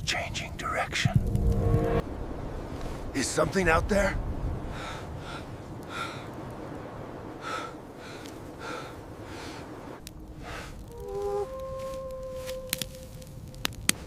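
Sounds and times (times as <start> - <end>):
wind-like hiss: 0.0 - 14.0.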